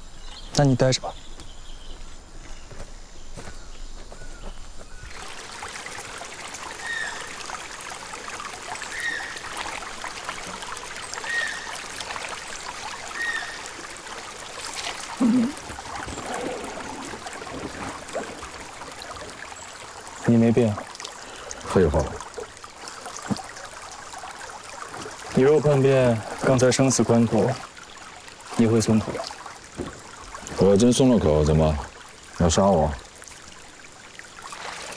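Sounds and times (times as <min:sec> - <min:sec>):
stream trickling over rocks: 0:04.4 - 0:34.9.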